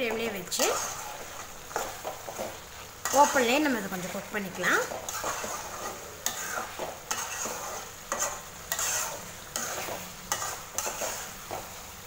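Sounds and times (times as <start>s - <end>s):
gravy sizzling in a pot: 0.0s - 12.0s
utensil scraping a pot: 0.5s - 11.6s.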